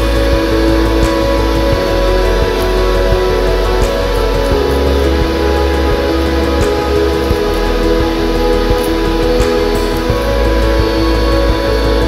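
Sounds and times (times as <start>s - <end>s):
instrumental music with guitar: 0.0s - 12.0s.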